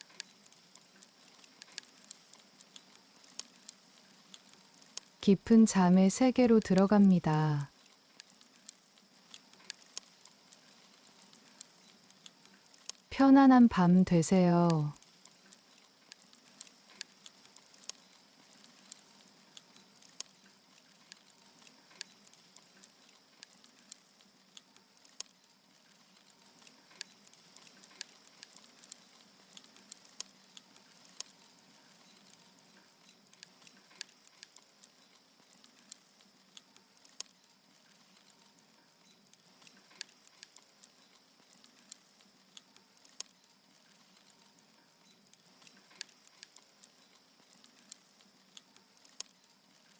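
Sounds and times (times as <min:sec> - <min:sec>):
faint steady hiss: 0:00.0 - 0:49.9
firewood crackling: 0:00.0 - 0:49.9.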